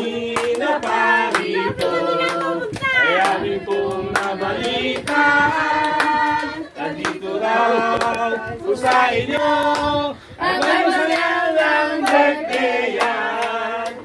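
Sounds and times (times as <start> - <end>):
group of people singing: 0.0 - 14.0
people clapping: 0.0 - 14.0.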